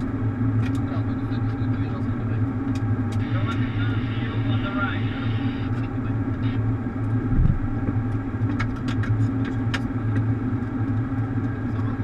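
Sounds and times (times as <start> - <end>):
cockpit low hum: 0.0 - 12.0.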